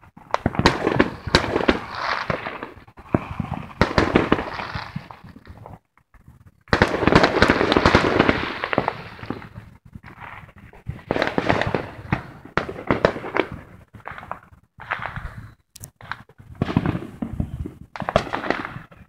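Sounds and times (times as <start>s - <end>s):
fireworks cracking and popping: 0.0s - 19.0s.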